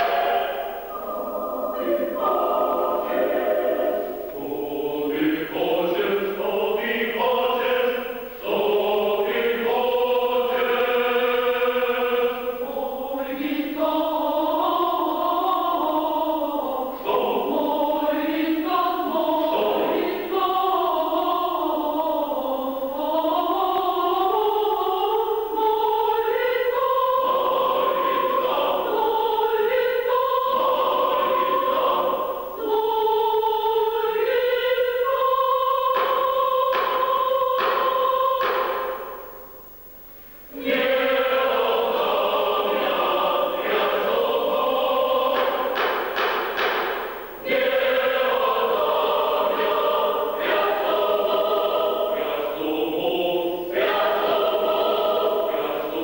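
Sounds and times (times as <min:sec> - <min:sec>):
choir singing in parts: 0:00.0 - 0:39.7, 0:40.5 - 0:56.0.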